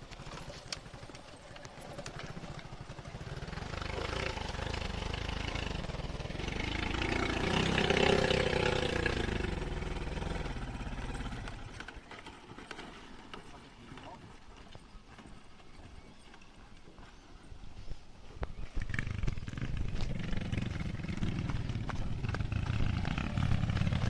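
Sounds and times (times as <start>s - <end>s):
motorcycle passing by: 0.0s - 14.1s, 18.8s - 24.0s.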